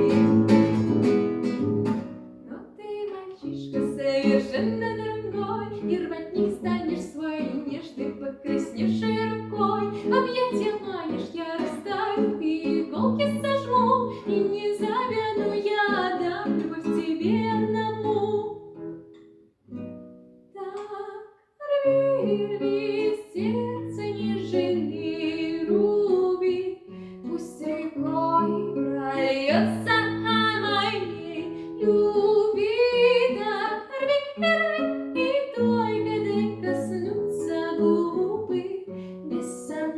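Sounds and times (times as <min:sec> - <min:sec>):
guitar accompaniment: 0:00.0 - 0:21.0, 0:21.9 - 0:39.9
woman singing pop song: 0:02.4 - 0:18.6, 0:20.6 - 0:39.9.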